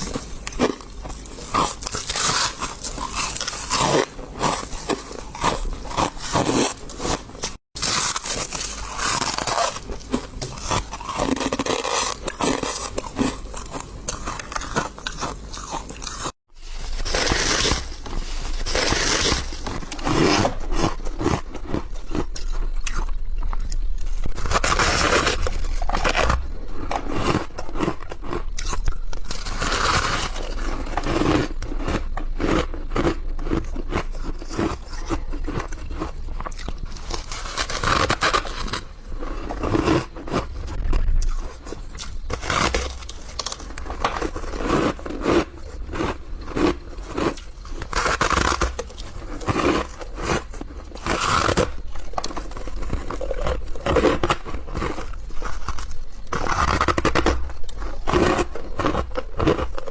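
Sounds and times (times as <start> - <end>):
person chewing crunchy ice: 0.0 - 59.9.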